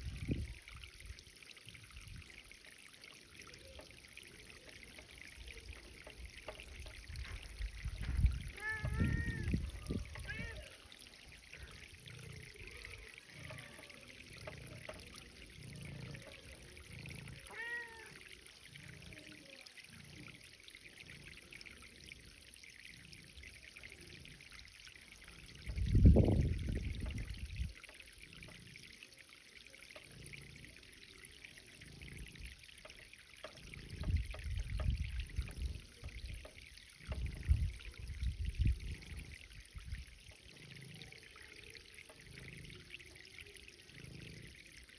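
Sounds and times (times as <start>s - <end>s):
water trickling: 0.0s - 44.9s.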